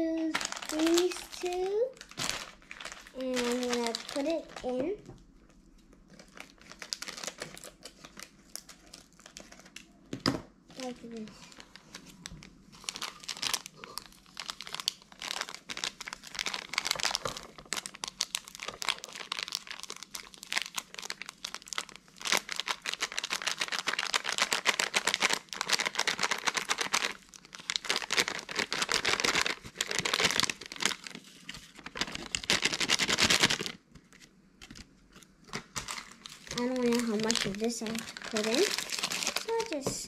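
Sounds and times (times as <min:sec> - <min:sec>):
plastic bag crinkling: 0:00.0 - 0:05.0, 0:05.9 - 0:09.9, 0:10.7 - 0:40.0.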